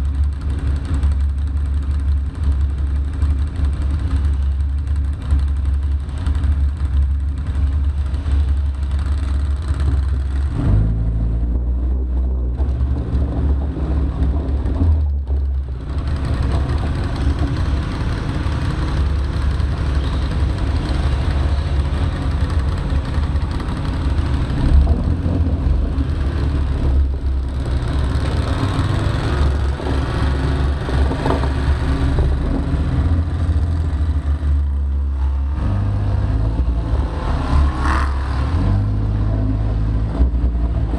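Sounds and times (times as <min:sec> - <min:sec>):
engine low rumble: 0:00.0 - 0:40.9.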